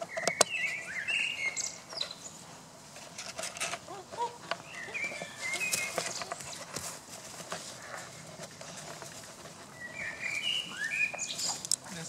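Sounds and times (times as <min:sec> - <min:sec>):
birds chirping: 0:00.0 - 0:02.6, 0:03.8 - 0:06.7, 0:07.8 - 0:12.0
rustling in grass: 0:00.6 - 0:12.0.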